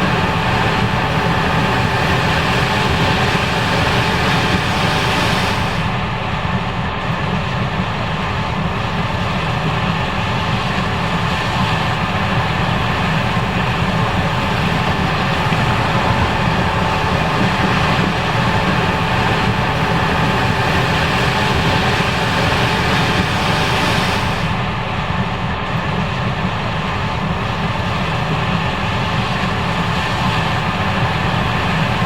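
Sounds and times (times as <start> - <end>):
combine harvester droning: 0.0 - 32.0.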